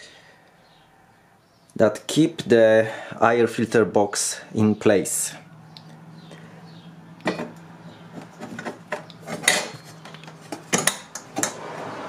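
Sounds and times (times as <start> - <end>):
faint steady hum: 0.0 - 11.5.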